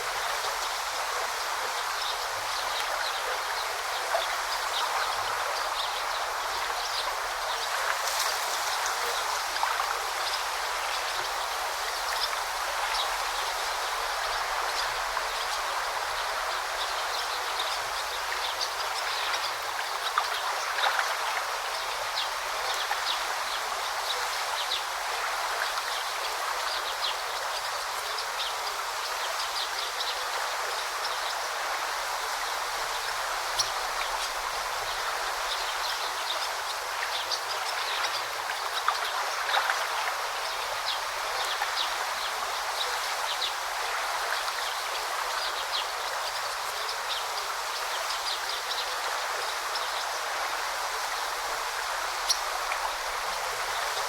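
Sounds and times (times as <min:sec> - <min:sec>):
river babbling: 0:00.0 - 0:54.0.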